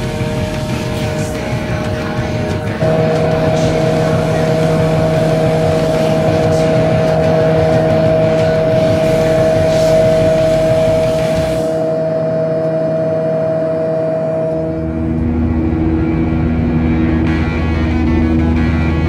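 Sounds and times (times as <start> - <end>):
airplane engines roaring: 0.0 - 19.0.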